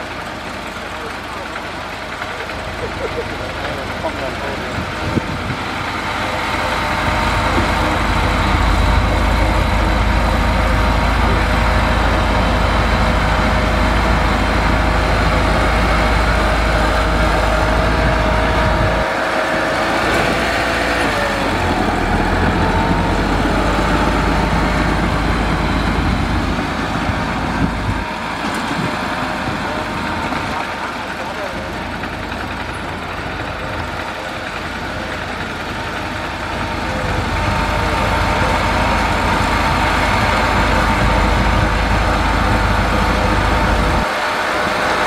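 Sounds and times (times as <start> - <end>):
deep diesel engine rumble: 0.0 - 45.0
engine whine: 0.0 - 45.0.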